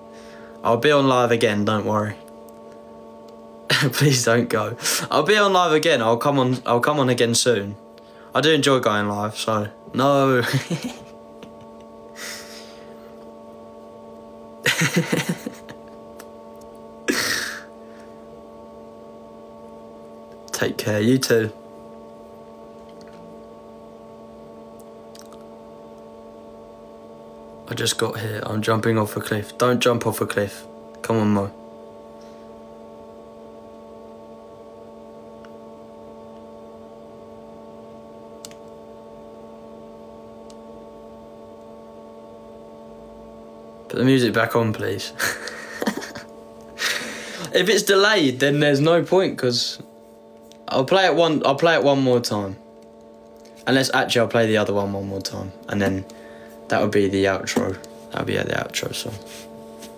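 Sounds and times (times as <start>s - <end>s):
steady electronic hum: 0.0s - 59.9s.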